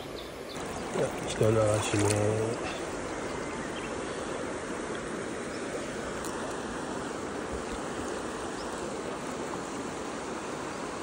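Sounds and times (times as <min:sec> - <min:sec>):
river water rushing over rocks: 0:00.6 - 0:11.0.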